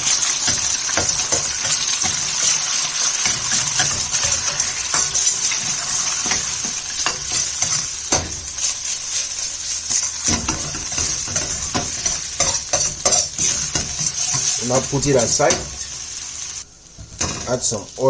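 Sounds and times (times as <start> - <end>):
utensil scraping and tapping pan: 0.0 - 9.2, 9.8 - 16.0
egg whites sizzling in oil: 0.0 - 18.0.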